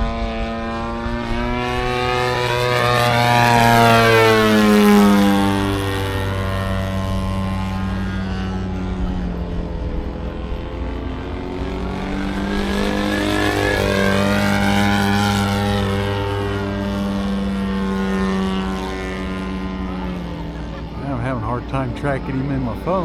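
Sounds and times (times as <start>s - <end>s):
model airplane engine flying past: 0.0s - 23.0s.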